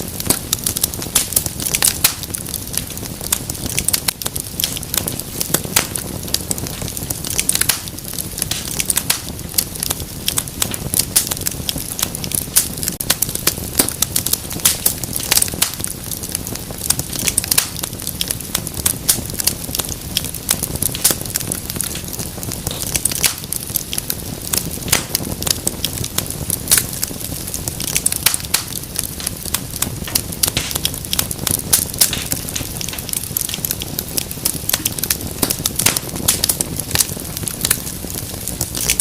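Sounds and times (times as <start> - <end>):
low rumble of burning: 0.0 - 39.0
wood fire popping and snapping: 0.0 - 39.0.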